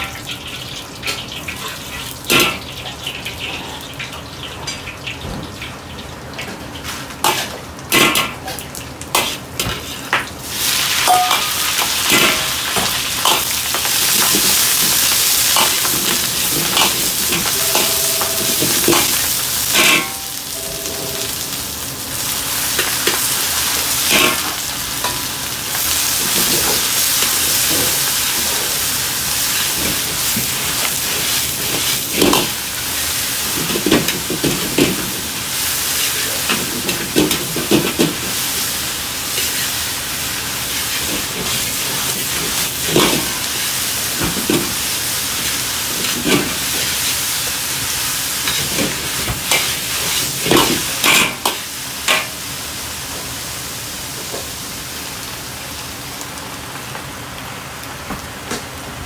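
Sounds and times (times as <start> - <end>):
stir-fry sizzling in a wok: 0.0 - 59.0.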